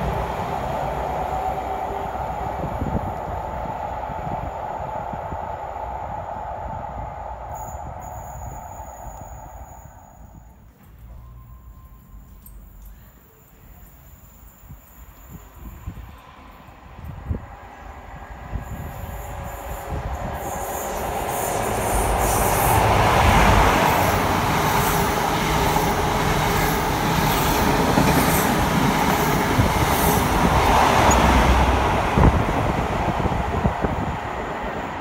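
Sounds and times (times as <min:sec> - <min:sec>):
train running past: 0:00.0 - 0:35.0.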